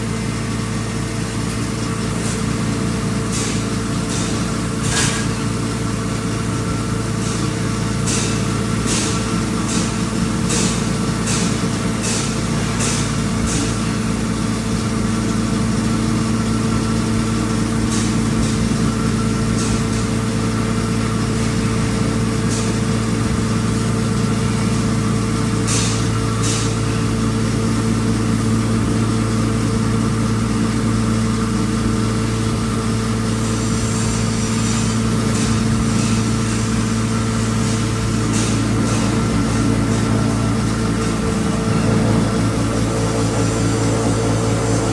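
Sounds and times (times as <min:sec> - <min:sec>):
grinding machine motor hum: 0:00.0 - 0:44.9.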